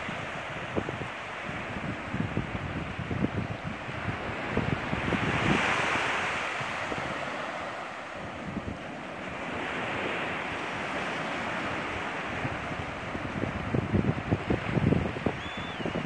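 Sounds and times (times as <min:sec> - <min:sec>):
surf washing on sand: 0:00.0 - 0:16.0
wind buffeting microphone: 0:00.0 - 0:16.0.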